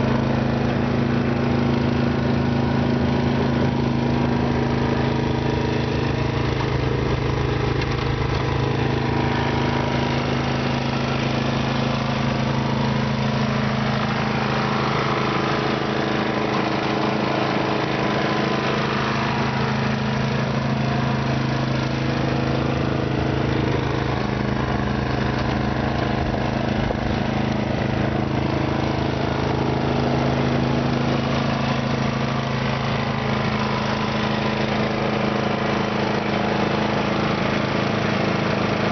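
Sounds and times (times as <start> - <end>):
snow blower engine running: 0.0 - 38.9.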